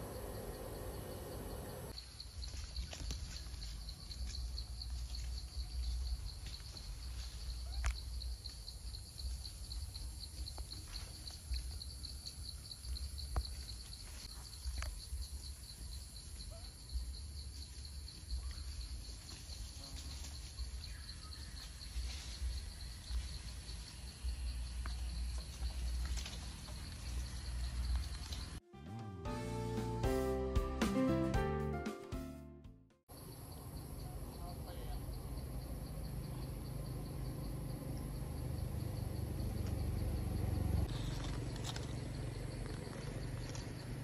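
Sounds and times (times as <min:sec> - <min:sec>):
insects trilling: 0:00.0 - 0:28.6, 0:33.1 - 0:44.0.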